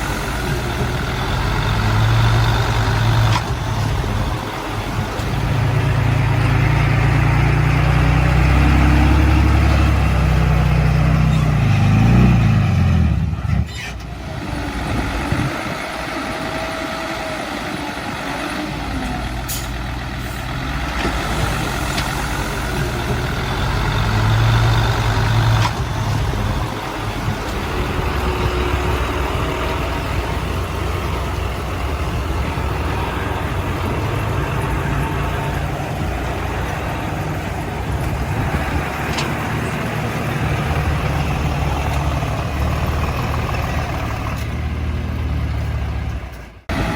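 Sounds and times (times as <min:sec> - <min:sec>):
crawler bulldozer running: 0:00.0 - 0:46.9
dump truck running: 0:00.0 - 0:46.9.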